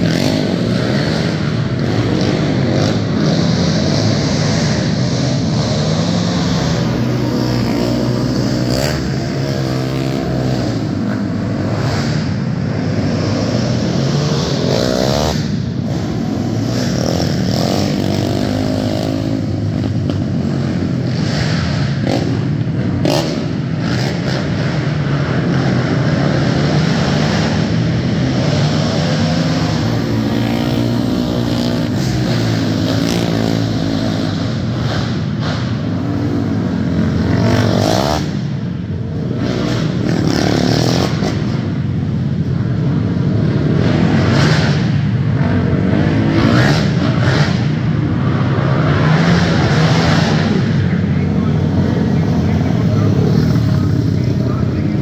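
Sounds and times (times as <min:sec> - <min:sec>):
quad engines revving: 0:00.0 - 0:55.0.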